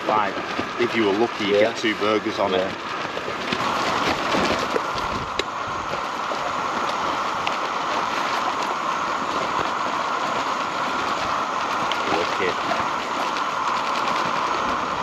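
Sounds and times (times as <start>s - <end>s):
food frying hiss: 0.0s - 15.0s
small crackles: 0.0s - 15.0s.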